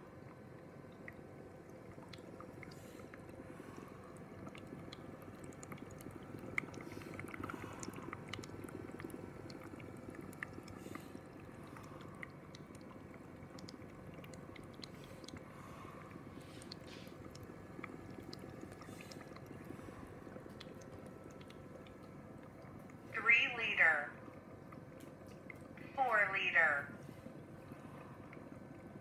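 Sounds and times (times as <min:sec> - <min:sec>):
oxygen concentrator humming: 0:00.0 - 0:29.0.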